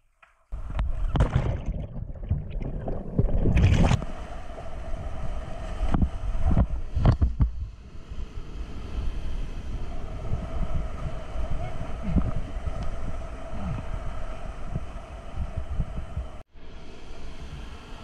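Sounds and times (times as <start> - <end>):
wind buffeting microphone: 1.8 - 16.5.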